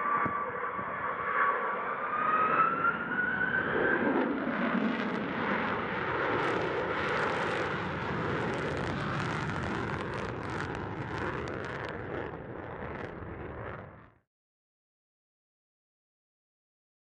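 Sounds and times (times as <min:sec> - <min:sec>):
jet passing low: 0:00.0 - 0:14.2.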